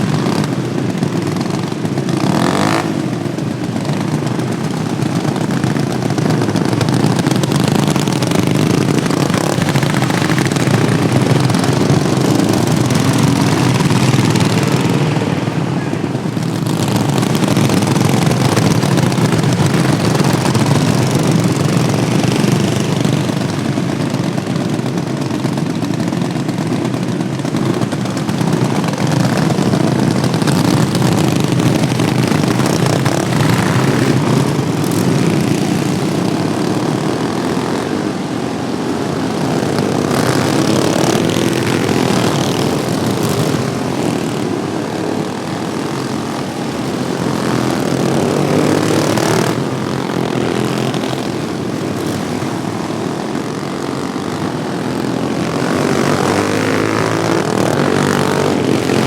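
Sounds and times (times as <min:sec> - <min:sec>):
racing lawn tractor engines droning: 0:00.0 - 0:59.0.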